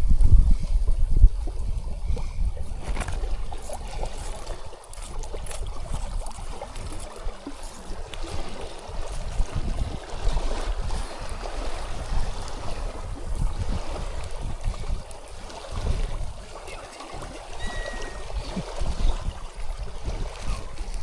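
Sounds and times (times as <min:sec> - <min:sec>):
stream water rushing: 0:02.6 - 0:21.0.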